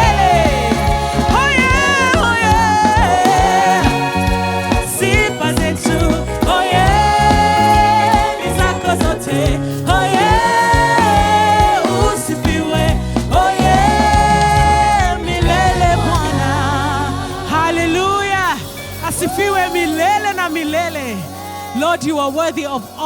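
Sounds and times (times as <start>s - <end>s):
band with bass and drums: 0.0s - 23.0s
voices singing gospel: 0.0s - 23.0s.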